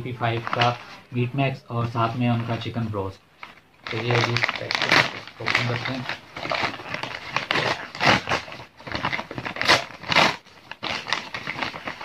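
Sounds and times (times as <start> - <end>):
paper bag crinkling: 0.0 - 1.1, 3.4 - 12.0.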